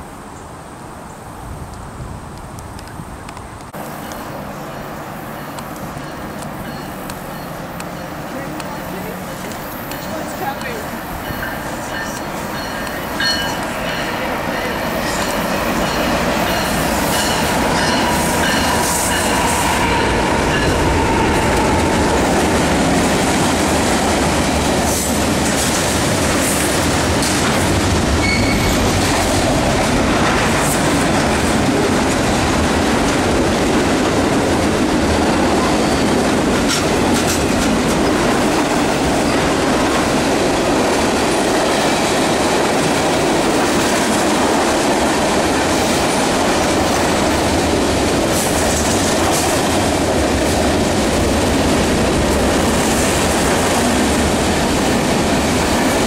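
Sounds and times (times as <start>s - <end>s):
diesel locomotives passing: 1.2s - 56.0s
freight cars rumbling with wheel clatter: 5.6s - 56.0s.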